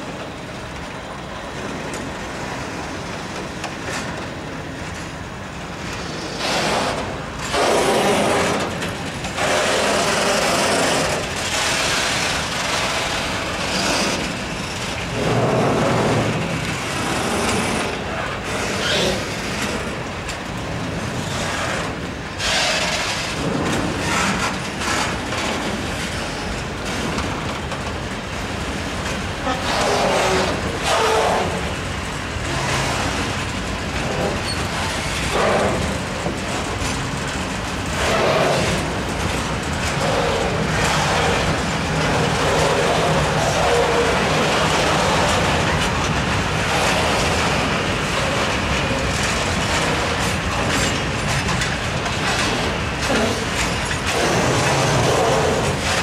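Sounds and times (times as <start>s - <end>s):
train rolling rumble: 0.0s - 56.0s
wheels clacking over rail joints: 0.0s - 56.0s.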